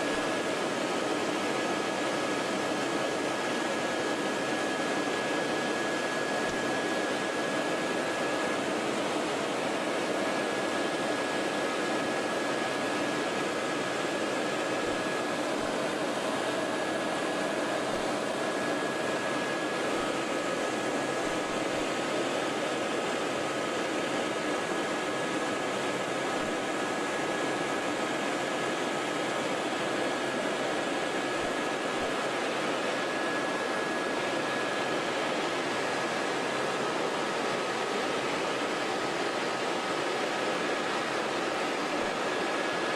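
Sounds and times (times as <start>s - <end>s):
helicopter engine and rotors: 0.0s - 42.9s.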